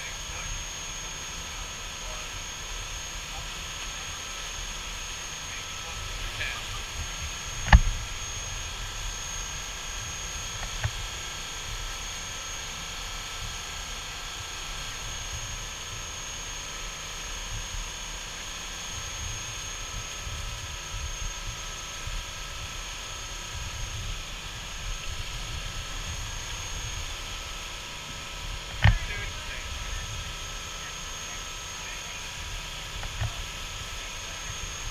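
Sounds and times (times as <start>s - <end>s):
boat engines droning: 0.0s - 34.9s
thin high whine: 0.0s - 34.9s.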